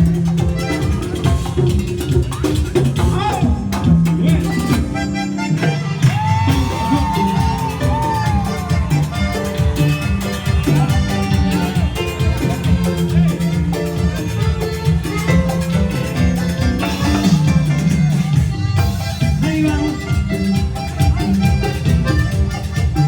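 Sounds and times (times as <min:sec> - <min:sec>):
band playing latin dance music: 0:00.0 - 0:23.0.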